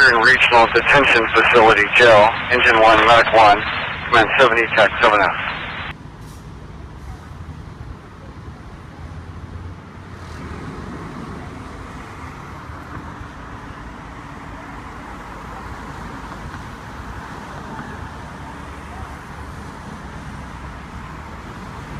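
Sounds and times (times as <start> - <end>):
street traffic noise: 0.0 - 21.9.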